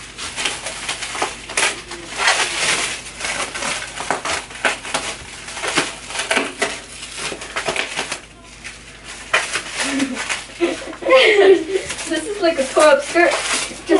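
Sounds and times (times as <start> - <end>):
plastic wrap crinkling and tearing: 0.0 - 13.9.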